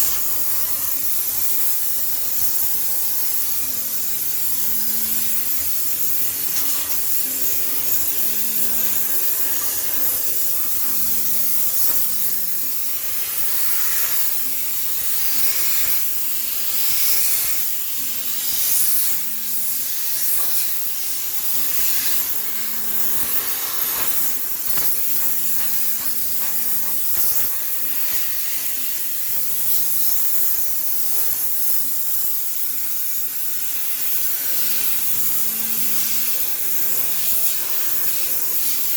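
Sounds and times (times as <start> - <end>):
steam cleaner hissing: 0.0 - 38.9.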